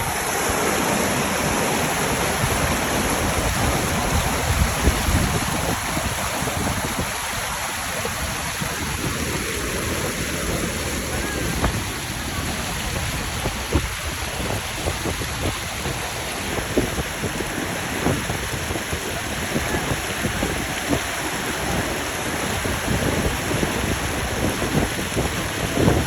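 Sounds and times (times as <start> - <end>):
waterfall pouring and splashing: 0.0 - 26.0.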